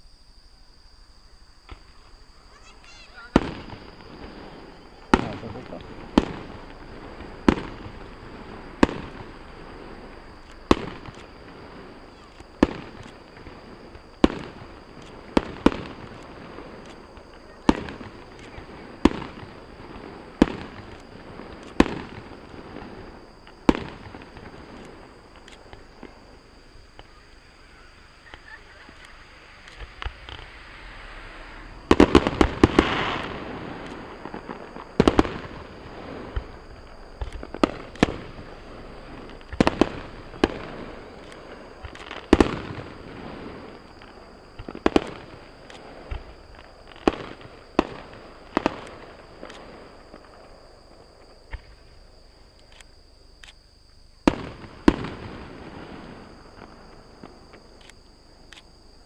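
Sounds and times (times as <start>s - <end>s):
distant fireworks bursting: 1.2s - 59.0s.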